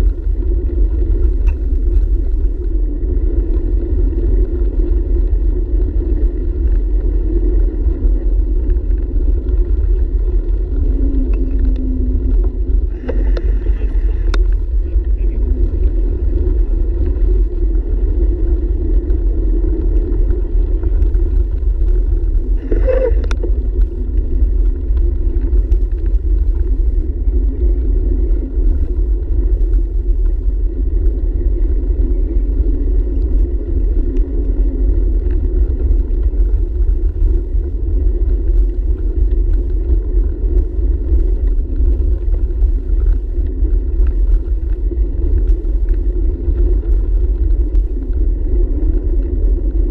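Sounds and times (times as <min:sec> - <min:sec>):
bicycle road vibration: 0:00.0 - 0:49.9
wind buffeting: 0:00.0 - 0:49.9.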